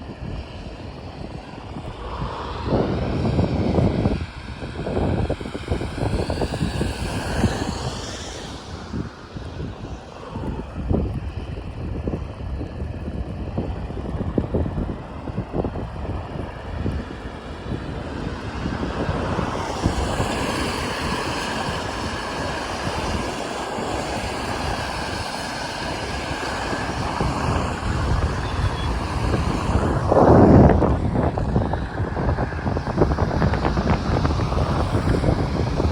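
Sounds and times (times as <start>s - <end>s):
road noise: 0.0s - 35.9s
wind buffeting microphone: 0.0s - 35.9s.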